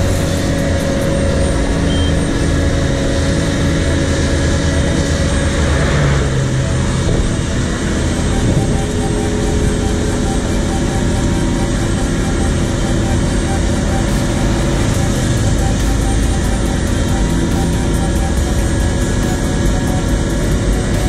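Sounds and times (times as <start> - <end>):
paver diesel engine humming: 0.0 - 21.0.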